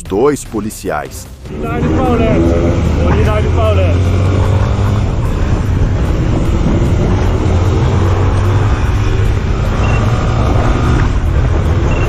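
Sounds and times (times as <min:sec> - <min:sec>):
wind and road noise: 0:00.9 - 0:12.0
motorcycle engine humming: 0:01.1 - 0:12.0.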